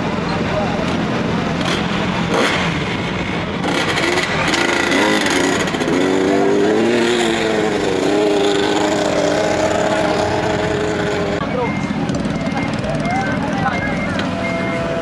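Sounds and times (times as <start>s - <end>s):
small motorcycle engine running: 1.6s - 15.0s.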